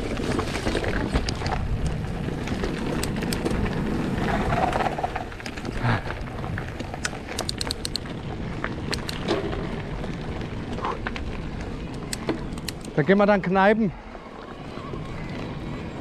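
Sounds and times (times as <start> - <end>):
wind on camera: 0.0 - 13.2
stones and bike rattling: 0.0 - 13.5.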